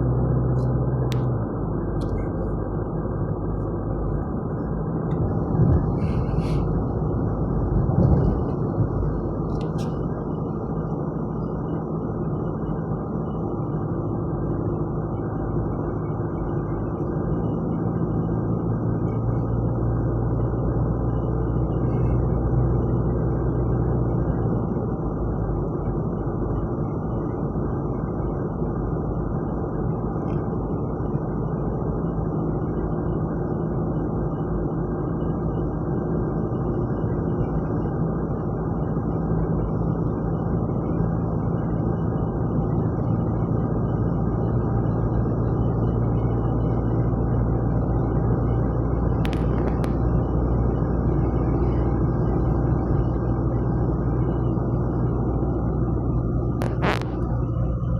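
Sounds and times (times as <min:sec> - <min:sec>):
road and engine drone: 0:00.0 - 0:57.9.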